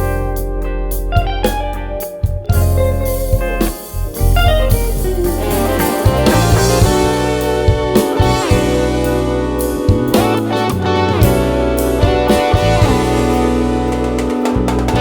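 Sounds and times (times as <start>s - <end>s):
drum kit: 0.0s - 15.0s
electric guitar playing: 0.0s - 15.0s
held bass notes: 0.0s - 15.0s.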